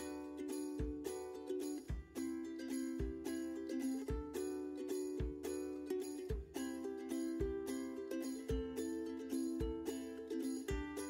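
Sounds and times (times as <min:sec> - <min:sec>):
light instrumental music with beat: 0:00.0 - 0:11.0.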